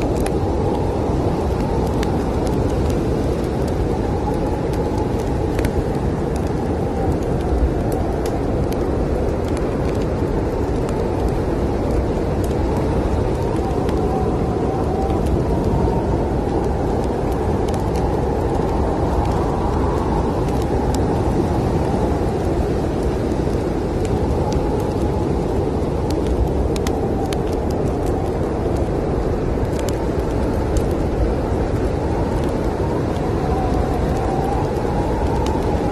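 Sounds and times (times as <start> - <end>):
low wind: 0.0 - 35.9
wood fire crackling: 0.0 - 35.9.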